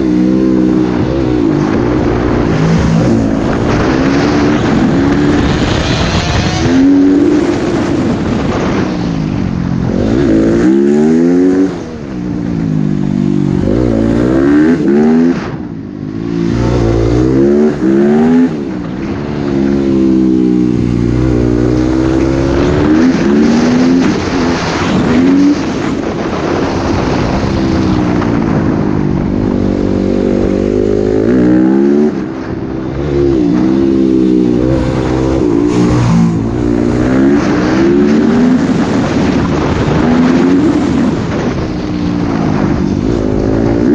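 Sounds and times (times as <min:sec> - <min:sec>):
dirt bike engine revving: 0:00.0 - 0:09.0, 0:09.6 - 0:43.9.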